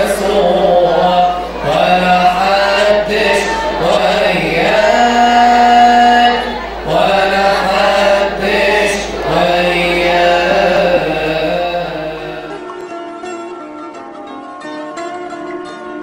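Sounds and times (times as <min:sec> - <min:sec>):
slow chanted hymn singing: 0:00.0 - 0:12.8.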